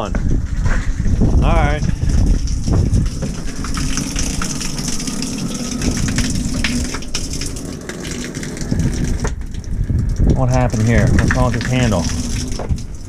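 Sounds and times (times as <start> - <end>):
shower water running: 1.4 - 13.0.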